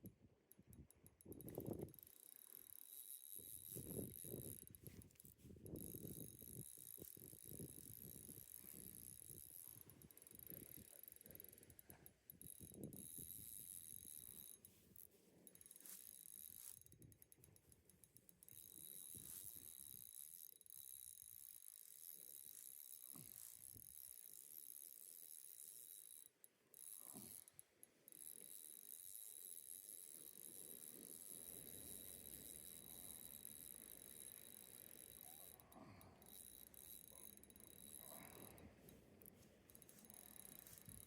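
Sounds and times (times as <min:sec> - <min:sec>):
fishing reel clicking: 0:00.0 - 0:41.0.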